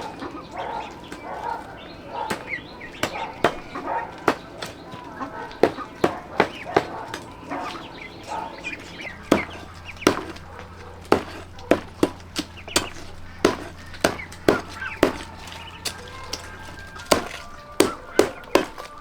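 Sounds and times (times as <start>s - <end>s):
blade chopping knocks: 2.2s - 19.0s.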